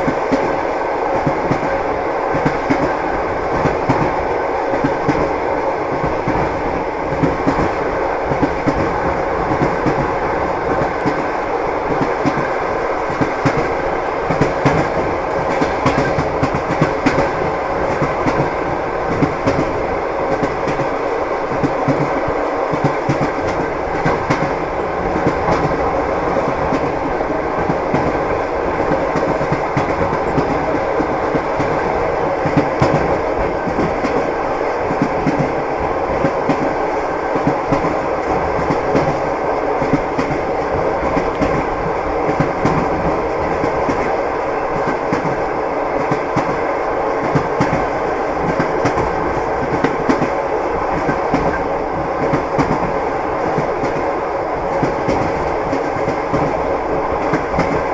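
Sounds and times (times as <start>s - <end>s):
railway carriage rumble: 0.0s - 57.9s
train wheels clattering: 0.0s - 57.9s.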